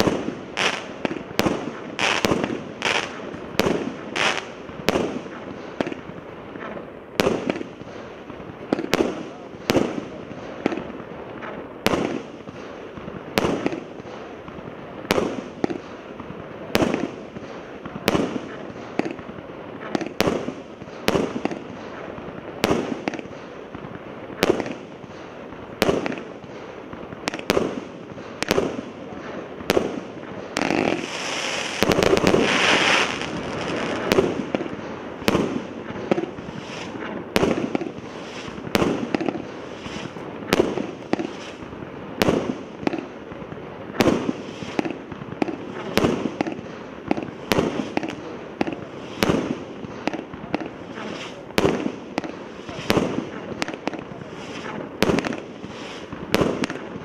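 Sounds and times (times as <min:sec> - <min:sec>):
firework bangs: 0:00.0 - 0:57.0
fireworks hissing crackle: 0:00.0 - 0:57.0.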